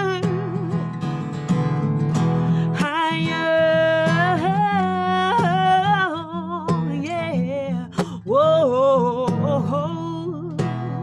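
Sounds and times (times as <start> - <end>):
woman singing with vibrato: 0.0 - 1.0, 2.6 - 11.0
strummed acoustic guitar: 0.0 - 11.0.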